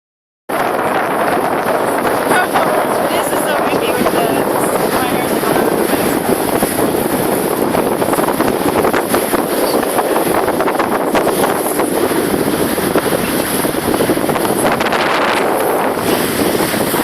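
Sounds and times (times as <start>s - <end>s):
boat motor and bow water rushing: 0.5s - 17.0s
wind buffeting microphone: 0.5s - 17.0s.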